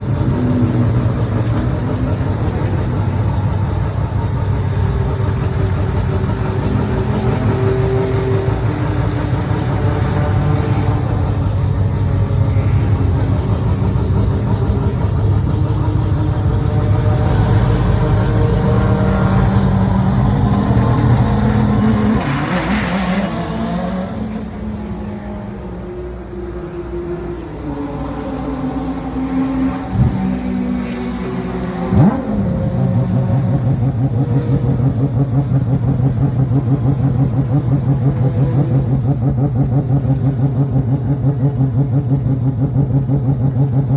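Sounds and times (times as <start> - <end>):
rotary race car engine idling: 0.0 - 43.9.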